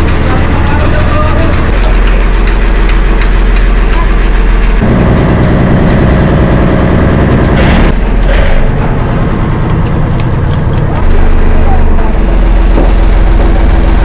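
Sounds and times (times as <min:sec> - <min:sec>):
diesel engine idling: 0:00.0 - 0:14.0
rushing noise: 0:00.0 - 0:14.0.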